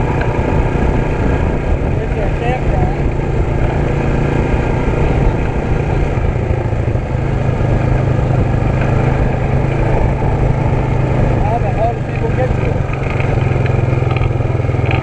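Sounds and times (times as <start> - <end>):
atv engine droning: 0.0 - 15.0.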